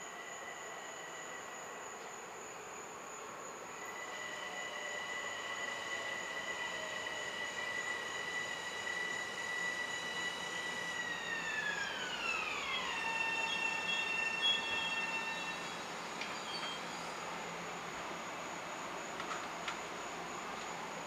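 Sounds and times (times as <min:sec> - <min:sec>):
electric train motors whining: 0:03.7 - 0:21.0.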